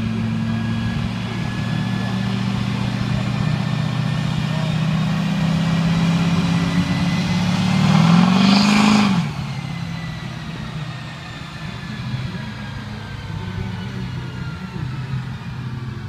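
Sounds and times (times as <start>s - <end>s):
diesel engine revving: 0.0s - 16.0s.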